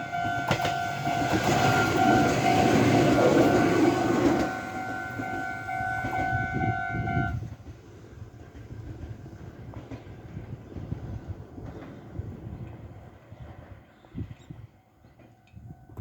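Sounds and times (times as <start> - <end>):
train cars rumbling: 0.0 - 16.0
two-tone train whine: 0.0 - 16.0.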